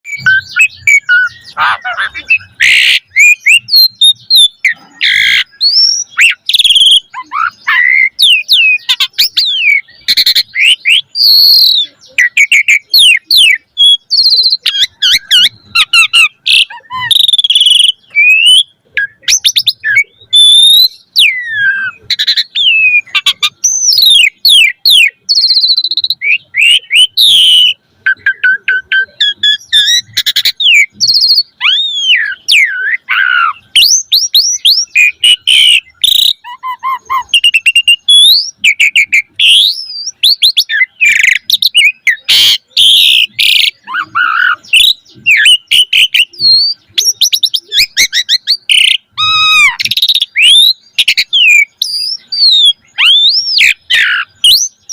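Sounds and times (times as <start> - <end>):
starling singing: 0.0 - 54.9.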